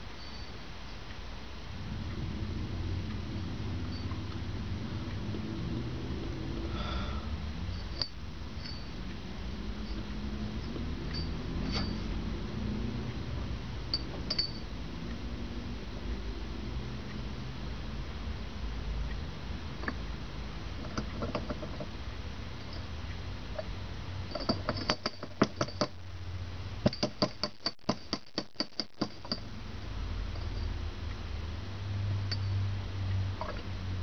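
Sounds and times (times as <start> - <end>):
steady low hum: 0.0 - 28.3, 29.0 - 34.0.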